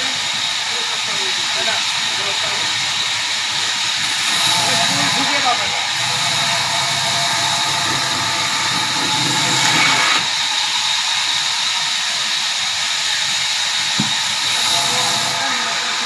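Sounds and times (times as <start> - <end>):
sawmill machinery hiss: 0.0 - 16.0.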